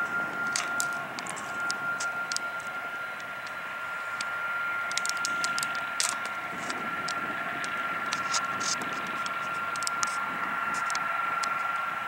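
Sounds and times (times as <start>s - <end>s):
aircraft engines hissing and whining: 0.0s - 12.0s.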